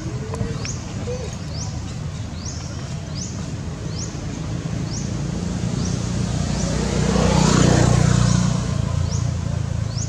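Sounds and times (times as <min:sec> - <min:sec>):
motor vehicle passing: 0:00.0 - 0:10.0.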